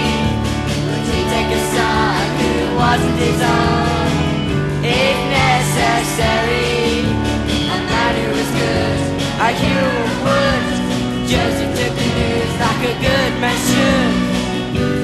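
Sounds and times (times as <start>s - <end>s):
instrumental accompaniment: 0.0s - 15.0s
person singing: 0.9s - 15.0s.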